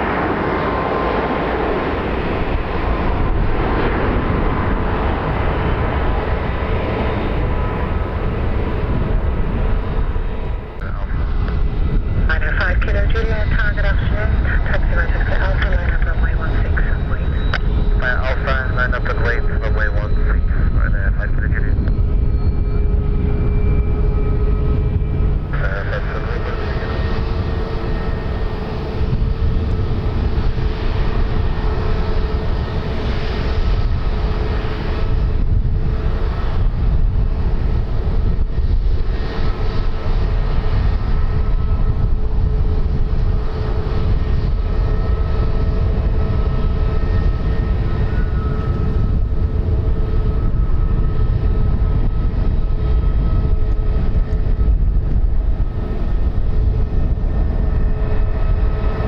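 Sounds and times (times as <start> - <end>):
aircraft engines rumbling and whining: 0.0 - 59.0.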